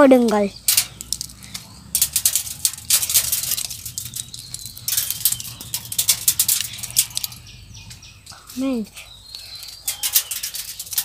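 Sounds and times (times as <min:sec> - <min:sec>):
seeds hitting metal roofing: 0:00.0 - 0:11.0.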